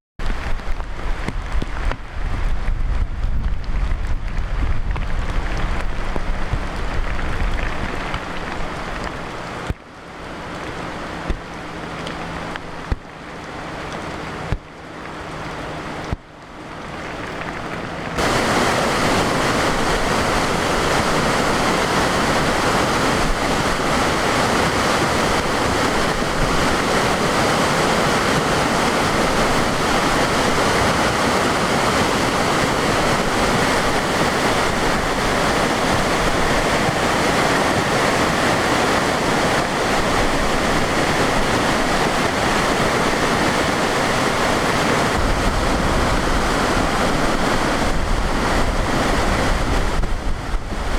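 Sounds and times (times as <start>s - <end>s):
floodwater rushing in creek: 0.2s - 50.9s.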